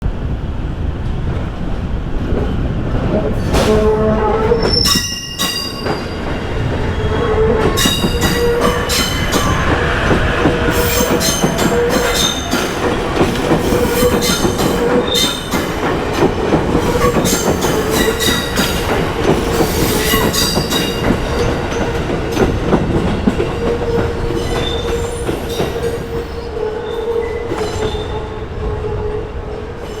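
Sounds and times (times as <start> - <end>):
train wheels squealing and clacking: 2.4 - 30.0.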